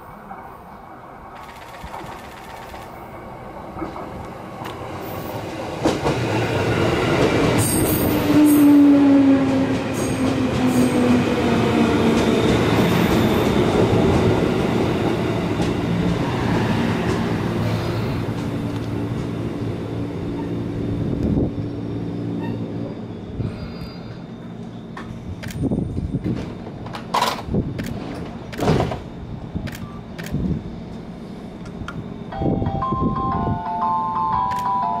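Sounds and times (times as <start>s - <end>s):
electric train pulling in: 0.0s - 28.4s, 29.1s - 35.0s.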